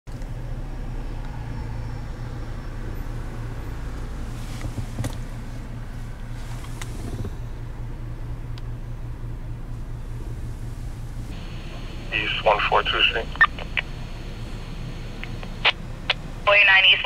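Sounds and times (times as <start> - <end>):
car engine rumbling: 0.1 - 17.0.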